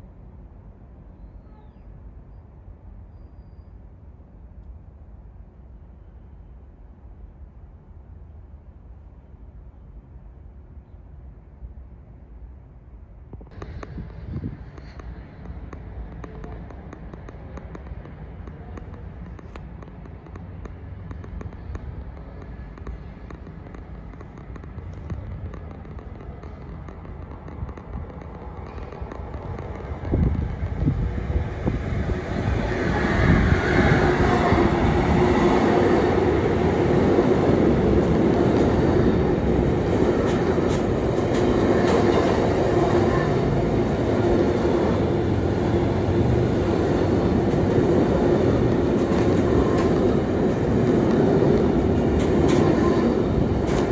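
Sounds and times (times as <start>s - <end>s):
freight train passing: 4.0s - 53.9s.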